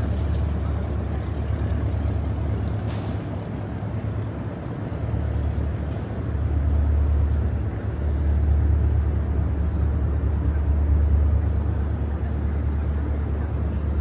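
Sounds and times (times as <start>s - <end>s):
general urban hum: 0.0s - 14.0s.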